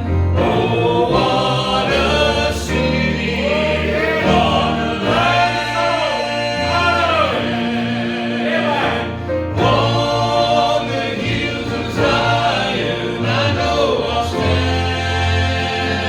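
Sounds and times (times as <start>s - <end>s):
instrumental accompaniment with bass: 0.0s - 16.0s
vocal group singing in harmony: 0.0s - 16.0s.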